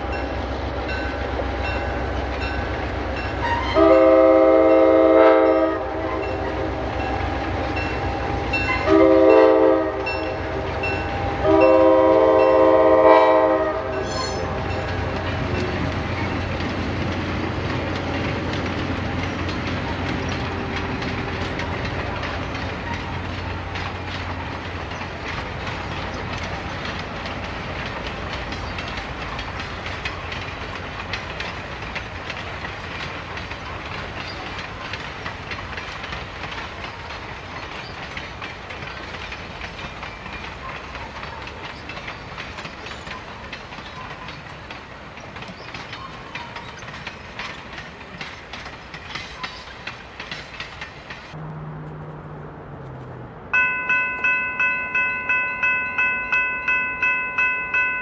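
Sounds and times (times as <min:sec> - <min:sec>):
train wheels clicking on rails: 0:00.0 - 0:58.0.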